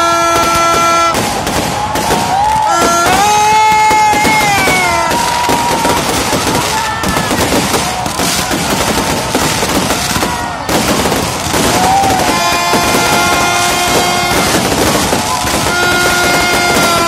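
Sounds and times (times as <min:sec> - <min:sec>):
firecrackers crackling: 0:00.0 - 0:17.0.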